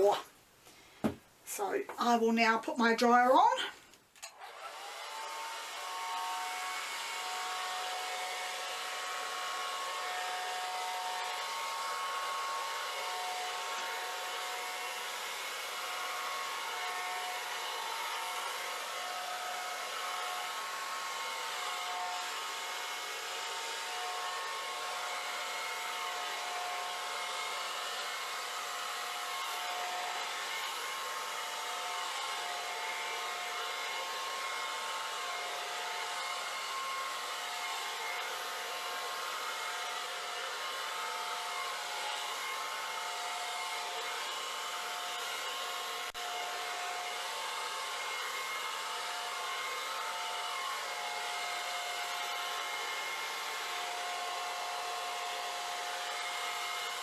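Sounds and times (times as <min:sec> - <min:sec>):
blow dryer running: 0:04.4 - 0:57.0.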